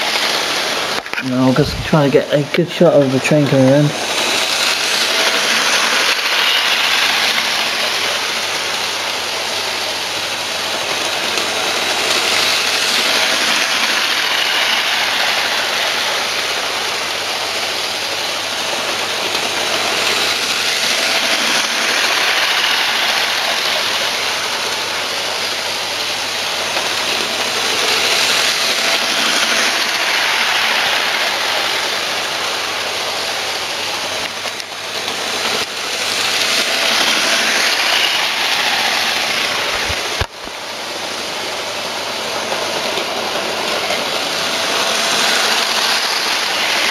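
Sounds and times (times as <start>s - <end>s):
model train motor and wheels whirring: 0.0s - 46.9s.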